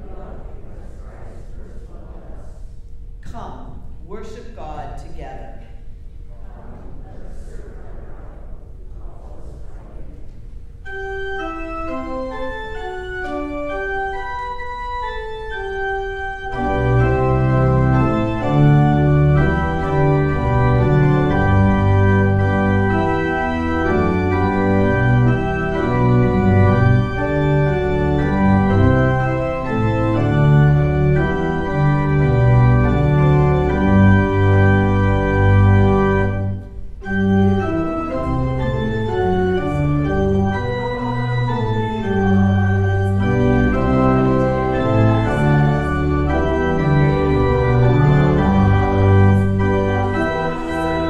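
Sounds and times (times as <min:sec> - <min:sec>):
church organ playing a hymn: 0:00.0 - 0:02.0, 0:10.8 - 0:51.0.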